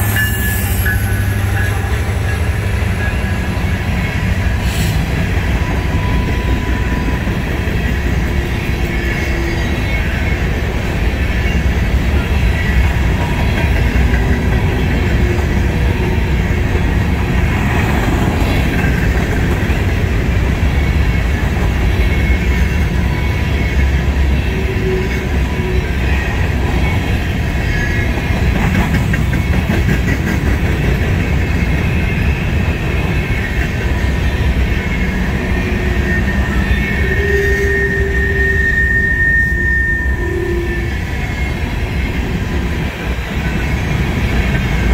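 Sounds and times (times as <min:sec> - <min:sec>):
high wheel squeal: 0:00.0 - 0:29.9, 0:31.2 - 0:44.9
train wheels rumbling on rail: 0:00.0 - 0:44.9.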